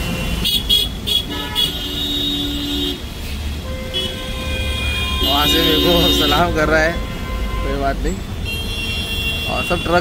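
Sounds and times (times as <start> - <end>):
idling engines rumble: 0.0 - 10.0
vehicle horns honking: 0.0 - 10.0.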